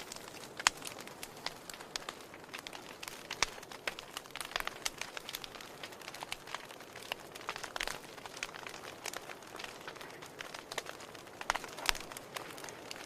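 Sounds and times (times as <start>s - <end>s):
campfire crackling and popping: 0.0s - 13.0s
soft steady hiss: 0.0s - 13.0s.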